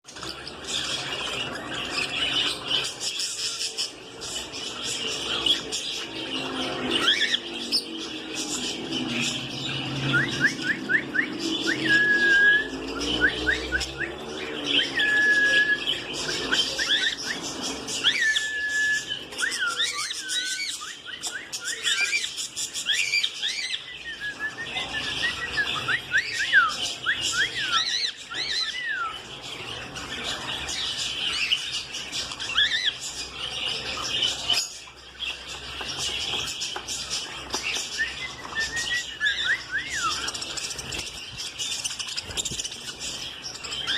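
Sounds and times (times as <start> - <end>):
budgerigars chirping and warbling: 0.1 - 43.9
whistled bird notes: 0.1 - 43.9.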